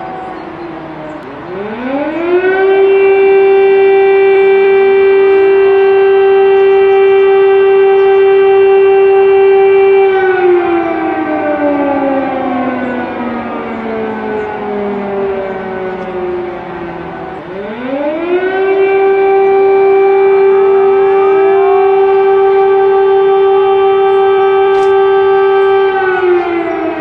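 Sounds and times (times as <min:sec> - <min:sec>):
air-raid siren winding: 0:00.0 - 0:27.0.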